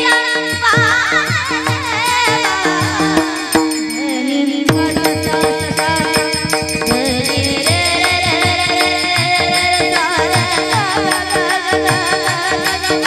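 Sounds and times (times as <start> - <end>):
devotional melodic tones: 0.0 - 13.0
drum rhythm: 0.0 - 13.0.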